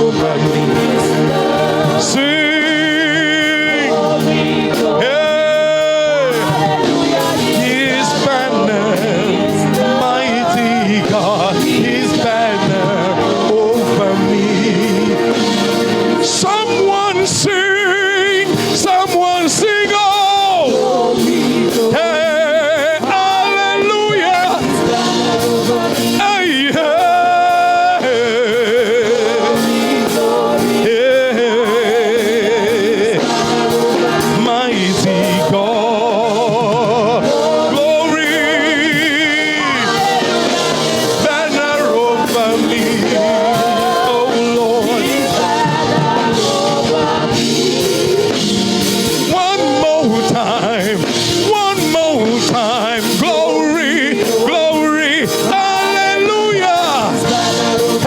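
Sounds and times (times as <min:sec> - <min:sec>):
band playing gospel music: 0:00.0 - 0:58.0
person singing with vibrato: 0:00.0 - 0:58.0.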